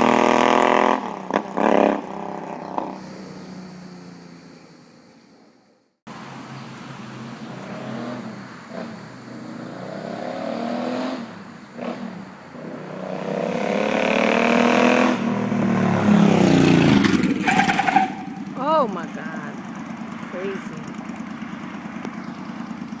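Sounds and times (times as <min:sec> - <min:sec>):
motorcycle engine revving: 0:00.0 - 0:05.7, 0:06.3 - 0:23.0.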